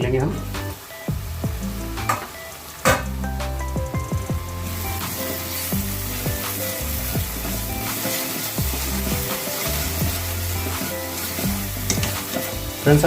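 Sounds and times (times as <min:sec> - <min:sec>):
background music: 0:00.0 - 0:13.0
masala sizzling in a pan: 0:00.4 - 0:13.0.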